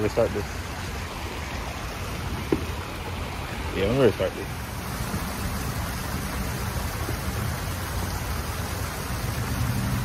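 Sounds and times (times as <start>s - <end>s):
fountain water splashing: 0.0s - 10.0s.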